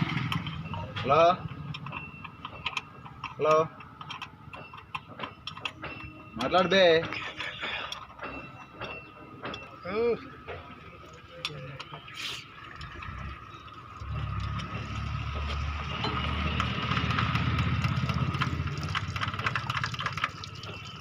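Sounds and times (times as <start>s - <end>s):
engine rumbling: 0.0s - 21.0s.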